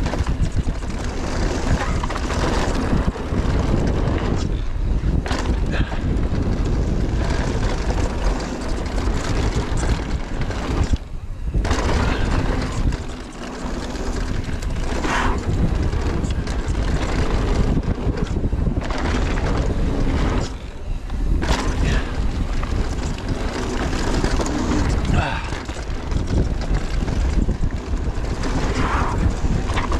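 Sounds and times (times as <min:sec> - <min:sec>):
bike tyres rolling over dirt: 0:00.0 - 0:29.9
wind buffeting microphone: 0:00.0 - 0:29.9.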